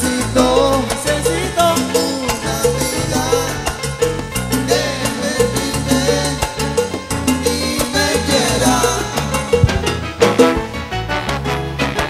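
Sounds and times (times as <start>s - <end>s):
bass line: 0.0s - 12.0s
live salsa band playing: 0.0s - 12.0s
percussion: 0.0s - 12.0s.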